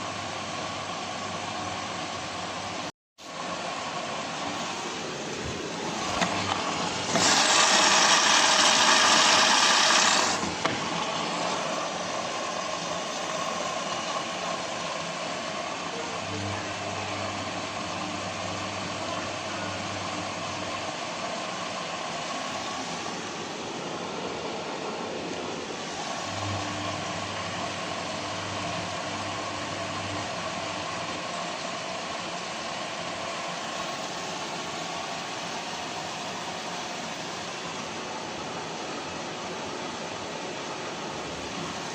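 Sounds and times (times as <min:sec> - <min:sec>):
washing machine hiss: 0:00.0 - 0:16.2, 0:17.0 - 0:41.9
washing machine drum motor humming: 0:00.0 - 0:41.9.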